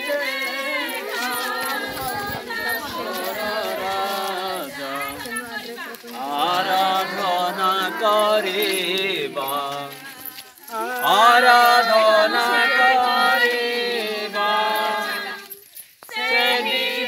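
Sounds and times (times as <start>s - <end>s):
group singing a chant: 0.0s - 17.0s.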